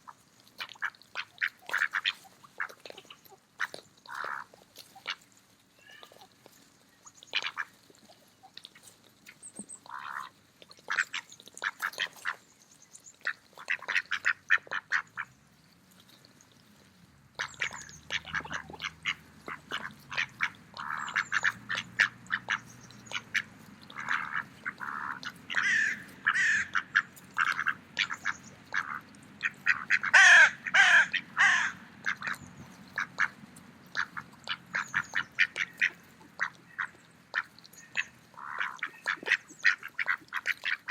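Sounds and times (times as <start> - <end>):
ducks quacking: 0.0 - 6.3, 7.1 - 12.4, 13.2 - 15.4, 17.3 - 40.9.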